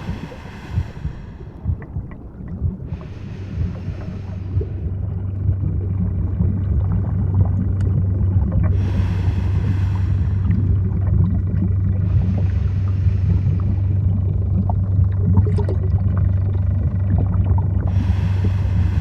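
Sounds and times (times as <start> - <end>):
boat engine hum underwater: 0.0 - 19.0
hissing bubbles: 0.0 - 19.0
underwater rumble with crackles: 0.0 - 19.0.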